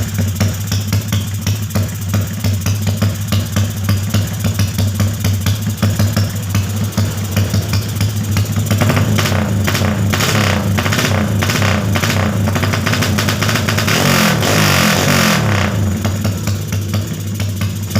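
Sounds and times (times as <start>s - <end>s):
motorcycle engine revving: 0.0s - 17.9s
motorcycle idling: 0.0s - 17.9s.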